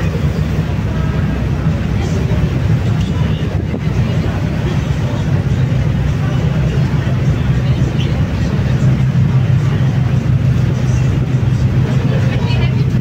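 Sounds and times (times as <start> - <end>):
background voices: 0.0 - 13.0
choppy water rushing: 0.0 - 13.0
ferry engine drone: 0.0 - 13.0
wind: 0.0 - 13.0.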